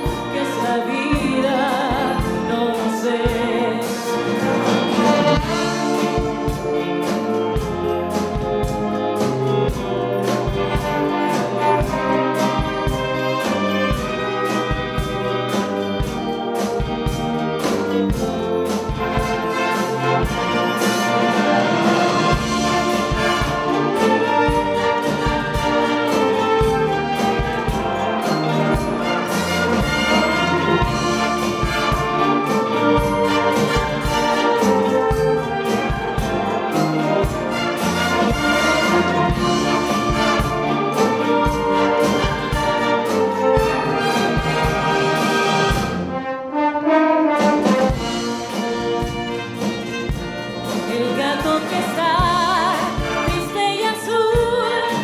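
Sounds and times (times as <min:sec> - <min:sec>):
steady percussion beat: 0:00.0 - 0:46.2, 0:47.3 - 0:55.0.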